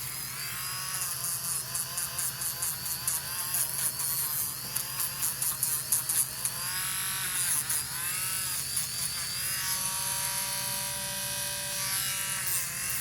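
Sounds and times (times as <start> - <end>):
rotary tool sanding whine: 0.0 - 13.0.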